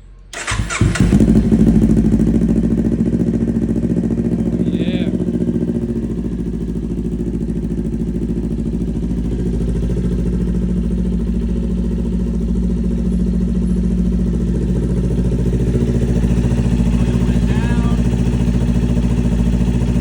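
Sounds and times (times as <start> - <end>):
motorcycle engine idling: 0.3 - 20.0.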